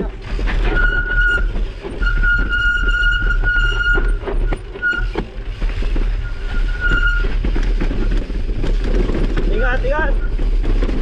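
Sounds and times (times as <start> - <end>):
rumble of wind and tyres: 0.0 - 11.0.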